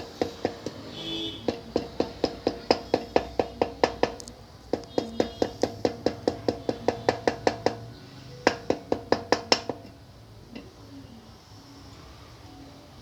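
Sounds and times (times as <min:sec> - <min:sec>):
hammer tapping on metal: 0:00.0 - 0:10.7.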